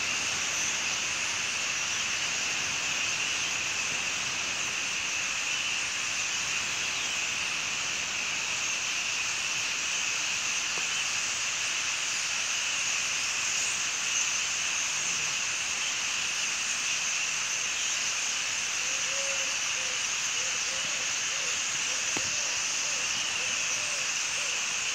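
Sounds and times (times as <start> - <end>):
flock of starlings calling: 0.0 - 24.9.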